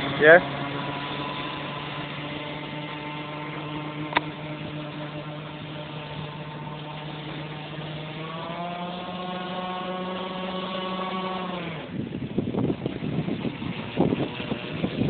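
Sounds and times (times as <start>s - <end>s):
model boat engine buzzing: 0.0s - 15.0s.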